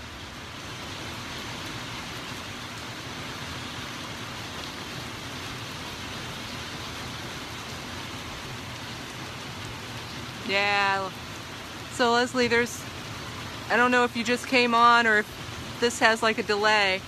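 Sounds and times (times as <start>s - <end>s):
rain falling steadily: 0.0s - 17.0s.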